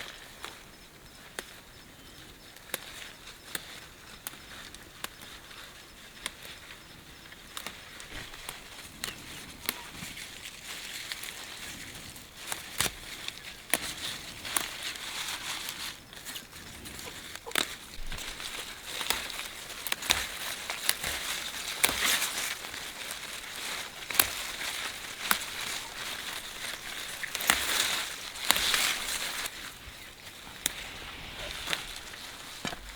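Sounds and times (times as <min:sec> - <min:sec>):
crackling rustles: 0:00.0 - 0:32.9.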